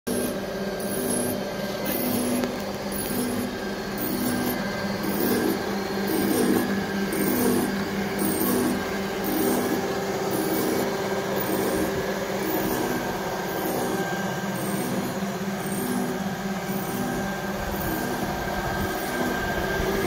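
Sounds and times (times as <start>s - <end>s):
machine hum: 0.0s - 20.0s
grinding wheel on drill bit: 0.1s - 20.0s.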